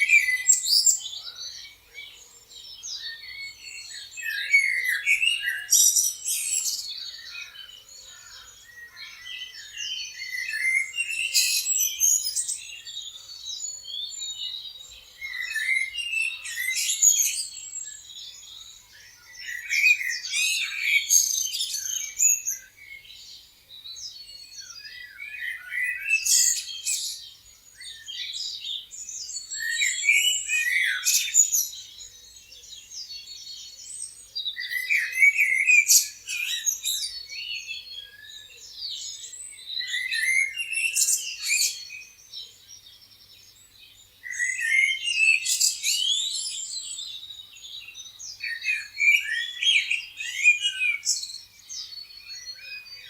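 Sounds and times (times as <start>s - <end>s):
songbirds chirping and singing: 0.0s - 53.0s.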